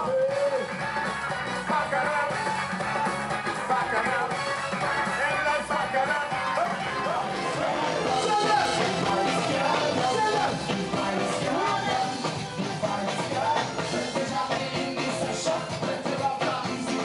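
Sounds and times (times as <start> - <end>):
electric guitar: 0.0 - 17.0
live band with singing: 0.0 - 17.0.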